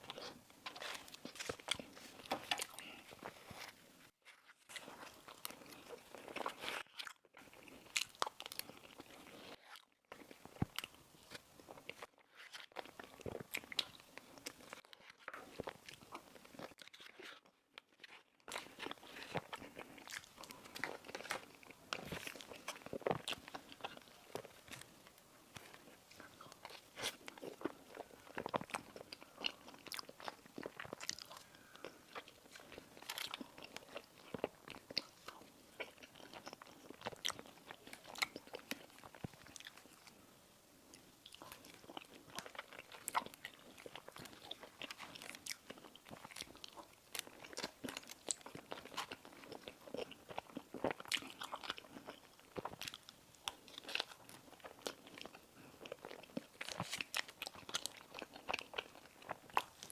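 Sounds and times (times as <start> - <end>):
crisp pastry being chewed: 0.0 - 40.2, 40.9 - 59.9.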